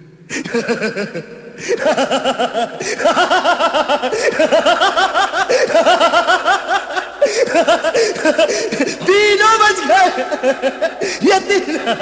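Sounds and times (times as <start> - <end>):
man laughing: 0.4 - 12.0.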